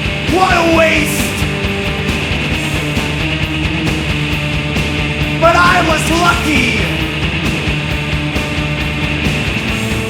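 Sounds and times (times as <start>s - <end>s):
distorted electric guitars: 0.0s - 10.0s
driving drum beat: 0.0s - 10.0s.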